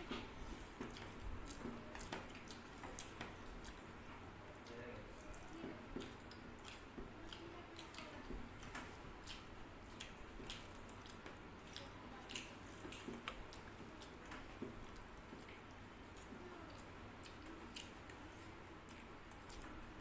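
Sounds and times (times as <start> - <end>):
chewing and wet squishes: 0.0 - 20.0.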